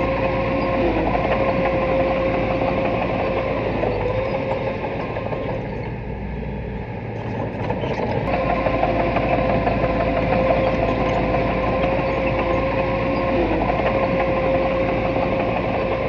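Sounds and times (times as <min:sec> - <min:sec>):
diesel engine whining: 0:00.0 - 0:16.0.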